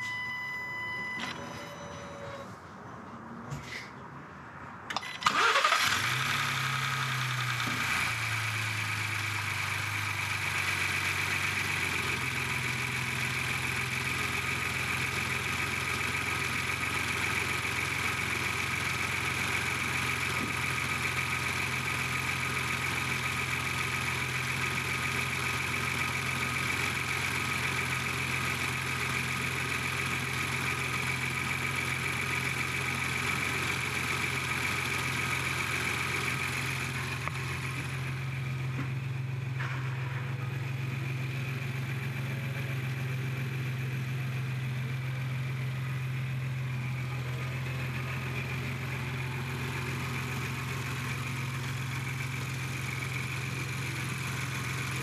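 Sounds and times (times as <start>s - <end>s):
engine cranking and idling: 4.9s - 55.0s.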